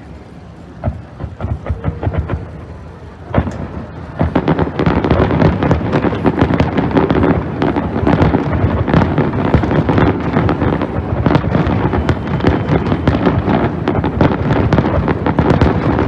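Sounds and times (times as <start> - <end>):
fireworks bangs and crackling: 0.5 - 16.0.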